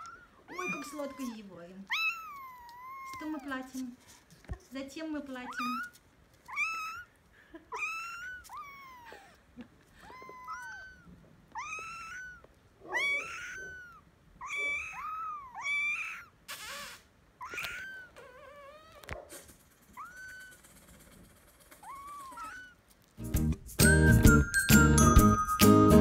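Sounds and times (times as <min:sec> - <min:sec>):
kittens mewing: 0:00.0 - 0:03.9, 0:05.4 - 0:22.8.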